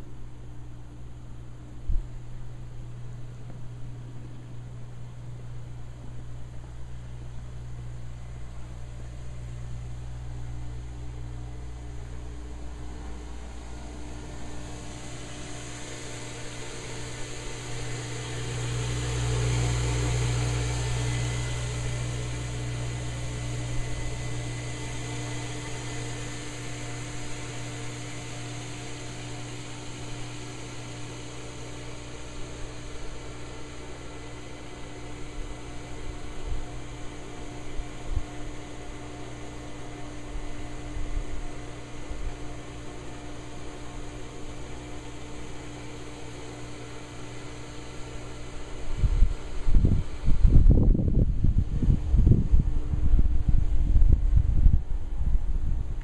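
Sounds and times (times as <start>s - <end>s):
machine hum with low drone: 0.0s - 56.0s.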